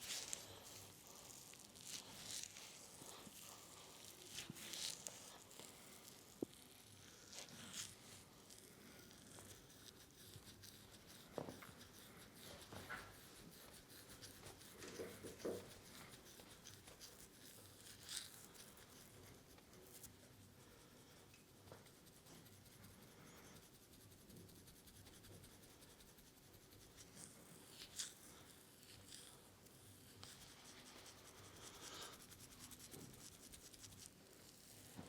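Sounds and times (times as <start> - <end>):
hands rubbing skin and hair: 0.0 - 20.2, 21.4 - 35.0.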